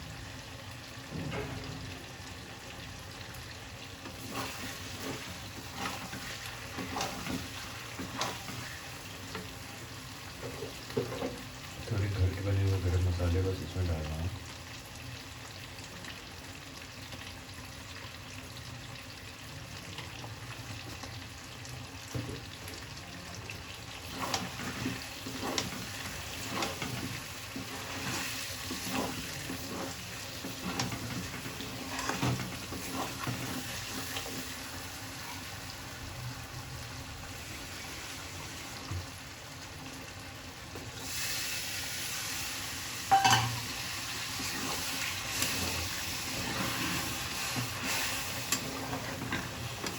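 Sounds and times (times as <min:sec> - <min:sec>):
chicken sizzling in a pan: 0:00.0 - 0:49.9.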